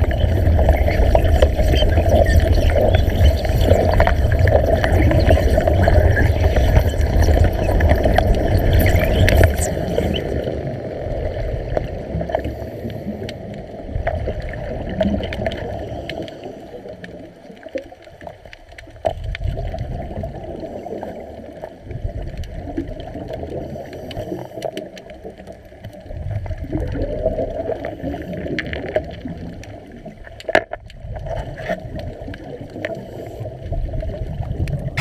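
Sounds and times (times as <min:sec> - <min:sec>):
water noise with clicks: 0:00.0 - 0:10.6, 0:11.3 - 0:35.0
underwater electric arc crackling: 0:00.0 - 0:35.0.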